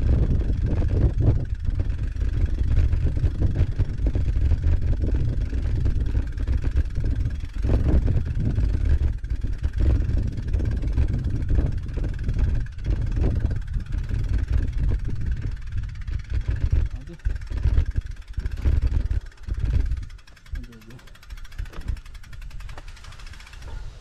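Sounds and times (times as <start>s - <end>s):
wind buffeting microphone: 0.0s - 24.0s
tyres rolling on dirt track: 0.2s - 24.0s.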